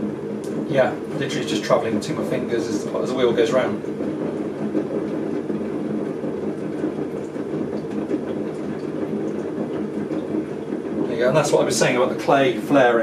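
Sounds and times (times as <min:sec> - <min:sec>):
potter's wheel humming: 0:00.0 - 0:13.0.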